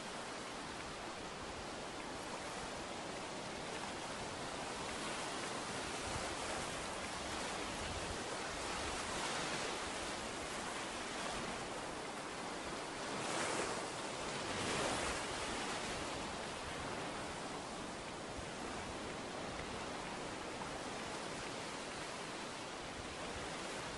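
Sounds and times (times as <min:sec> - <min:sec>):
ocean waves breaking on beach: 0:00.0 - 0:23.9.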